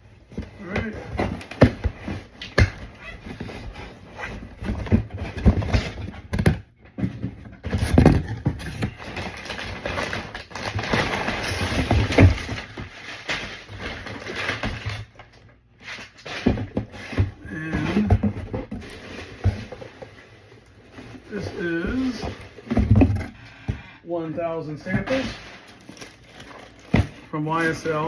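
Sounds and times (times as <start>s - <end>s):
cardboard and paper rustling: 0.1s - 28.0s.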